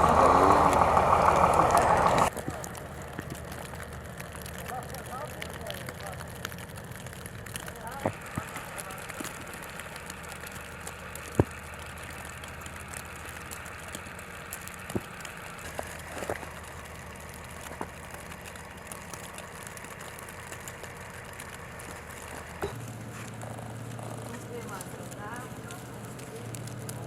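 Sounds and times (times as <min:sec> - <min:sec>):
motor idling hum: 0:00.0 - 0:27.0.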